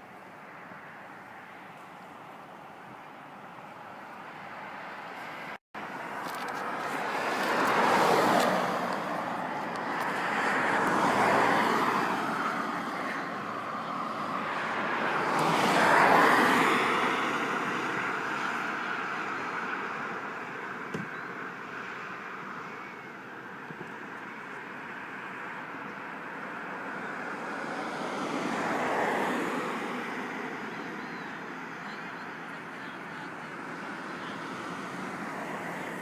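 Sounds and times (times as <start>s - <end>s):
road vehicles passing: 0.0s - 36.0s.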